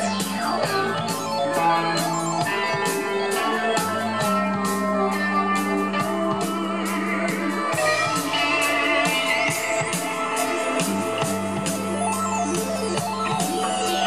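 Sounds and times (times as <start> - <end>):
electric guitar: 0.0 - 14.0
keyboard: 0.0 - 14.0.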